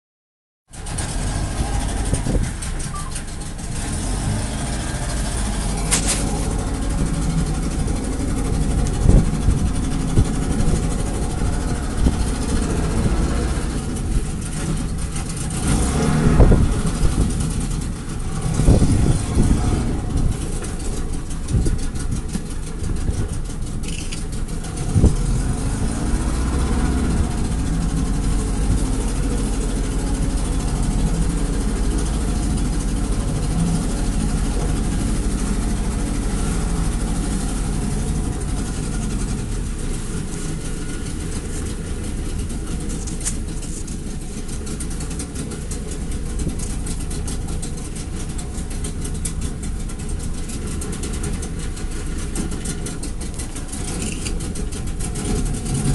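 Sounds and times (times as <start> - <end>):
boat engine rumbling: 0.7 - 55.9.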